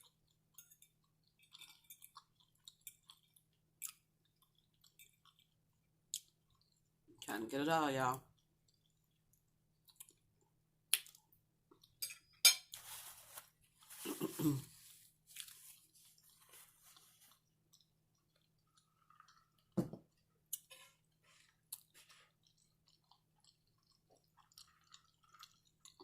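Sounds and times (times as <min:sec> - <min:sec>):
chewing food: 0:00.0 - 0:07.3, 0:08.2 - 0:12.0, 0:13.9 - 0:26.0.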